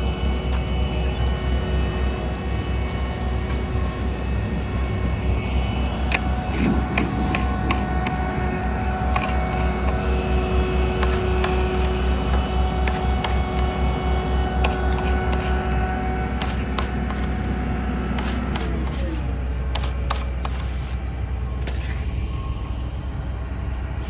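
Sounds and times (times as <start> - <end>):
diesel machinery rumbling: 0.0 - 24.0
steady machine whine: 0.0 - 24.0.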